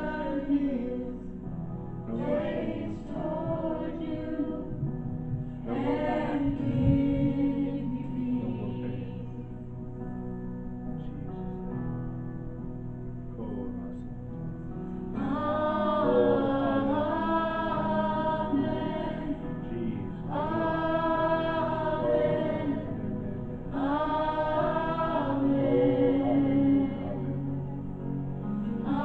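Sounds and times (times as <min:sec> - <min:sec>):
group singing slow gospel song: 0:00.0 - 0:09.7, 0:15.1 - 0:29.0
sustained accompaniment chords: 0:00.0 - 0:29.0.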